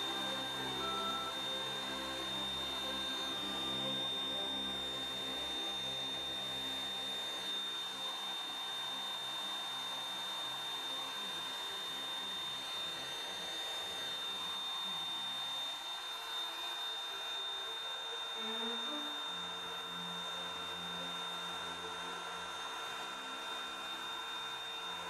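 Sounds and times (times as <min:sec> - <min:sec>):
router whining while cutting wood: 0:00.0 - 0:25.0.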